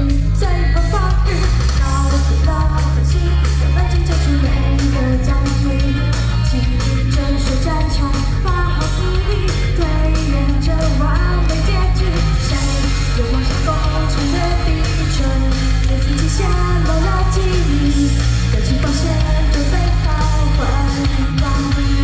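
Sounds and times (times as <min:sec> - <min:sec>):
pop-rock backing music: 0:00.0 - 0:22.0
woman singing into microphone: 0:00.0 - 0:22.0.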